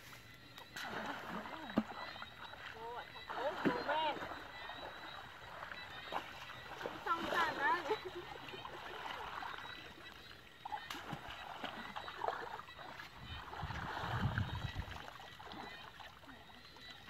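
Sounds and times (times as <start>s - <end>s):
muddy water sloshing: 0.0s - 17.0s.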